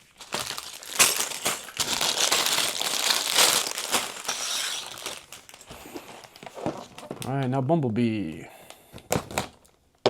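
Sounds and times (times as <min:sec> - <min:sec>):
plastic bags and paper crinkling: 0:00.0 - 0:07.5, 0:08.6 - 0:09.8.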